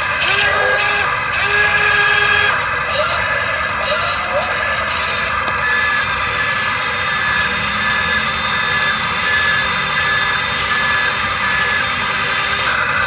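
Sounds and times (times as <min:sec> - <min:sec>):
model excavator motor whine: 0:00.0 - 0:13.0.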